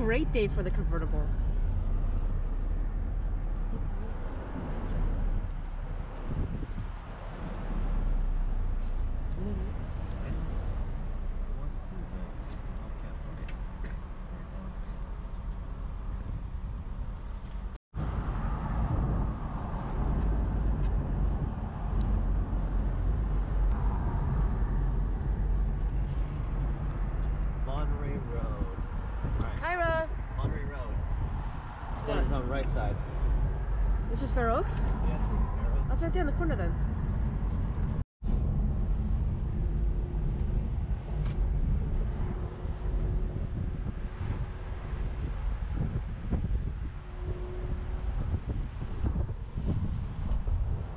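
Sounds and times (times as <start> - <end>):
road and engine noise: 0.0 - 50.9
wind buffeting microphone: 0.0 - 50.9.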